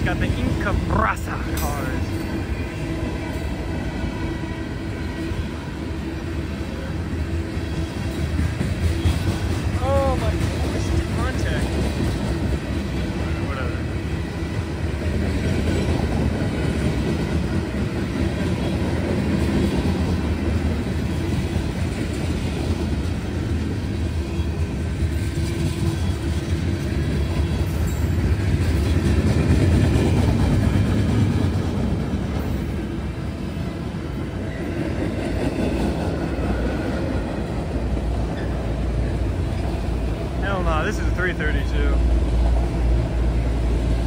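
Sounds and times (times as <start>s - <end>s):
freight train wheels rumbling on track: 0.0s - 44.0s.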